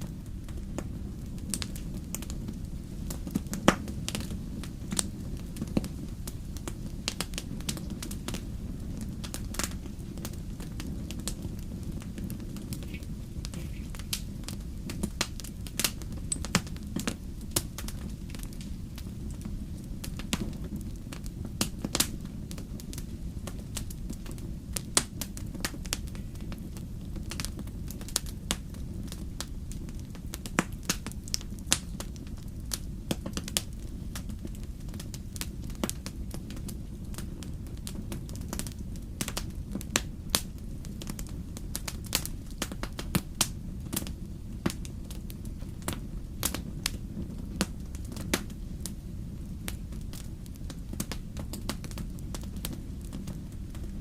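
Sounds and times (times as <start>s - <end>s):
fire crackling and popping: 0.0s - 54.0s
low rumble of flame: 0.0s - 54.0s.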